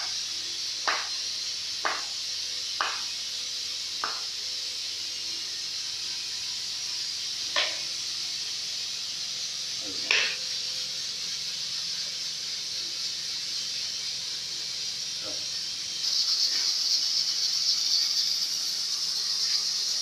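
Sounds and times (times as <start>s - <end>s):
pressure cooker hissing: 0.0s - 20.0s.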